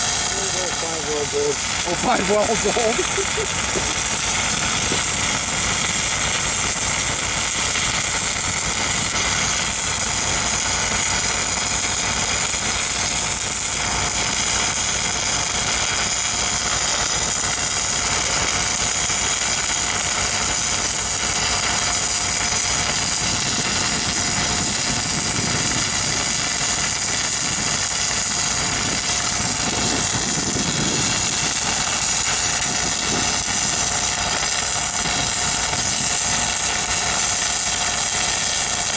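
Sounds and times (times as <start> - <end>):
welding arc crackling: 0.0 - 38.9
welding machine engine running: 0.0 - 38.9.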